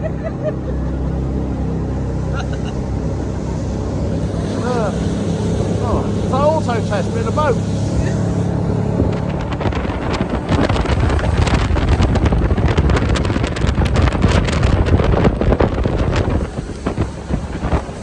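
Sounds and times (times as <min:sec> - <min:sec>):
boat engine: 0:00.0 - 0:18.0
wind buffeting microphone: 0:00.0 - 0:18.0.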